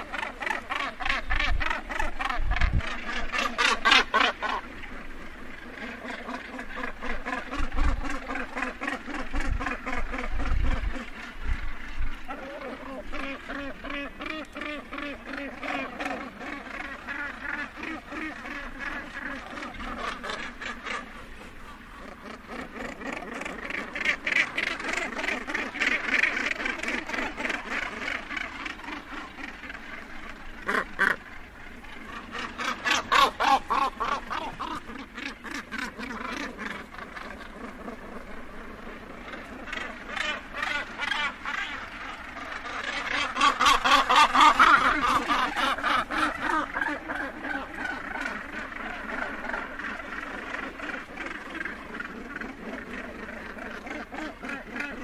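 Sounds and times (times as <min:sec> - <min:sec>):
gannets cackling calls: 0:00.0 - 0:55.0.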